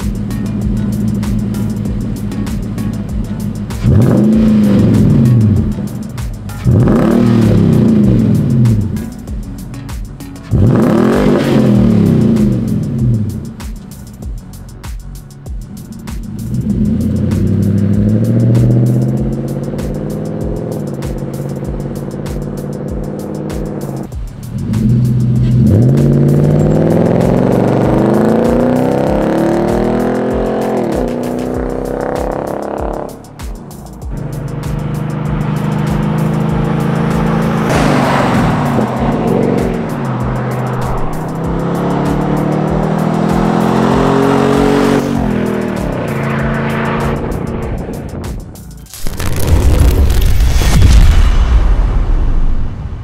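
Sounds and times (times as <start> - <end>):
truck engine exhaust note: 0.0 - 9.1, 16.3 - 33.3, 34.0 - 50.3.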